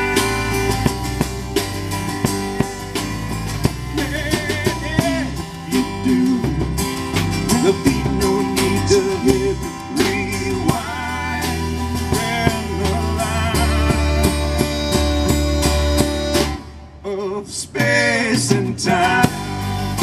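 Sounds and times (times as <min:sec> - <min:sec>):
drum kit beat: 0:00.0 - 0:16.8, 0:17.7 - 0:20.0
acoustic guitar: 0:00.0 - 0:20.0
banjo: 0:00.0 - 0:20.0
upright bass: 0:00.0 - 0:20.0.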